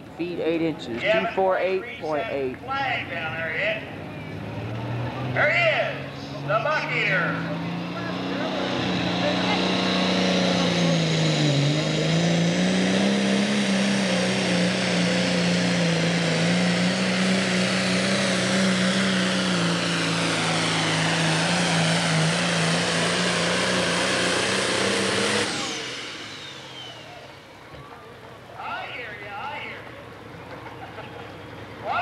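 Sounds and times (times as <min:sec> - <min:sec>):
diesel tractor engine at full load: 0:00.0 - 0:32.0
high turbo whine: 0:00.0 - 0:32.0.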